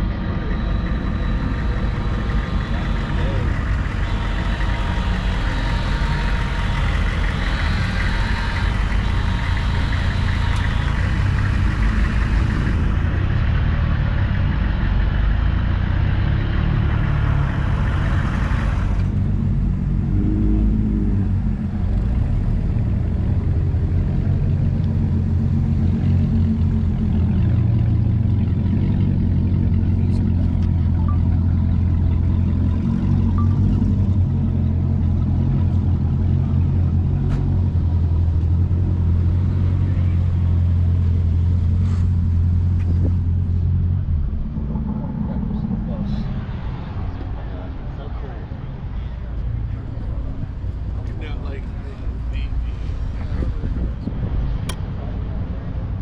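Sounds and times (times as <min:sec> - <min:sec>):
car engine running: 0:00.0 - 0:47.4.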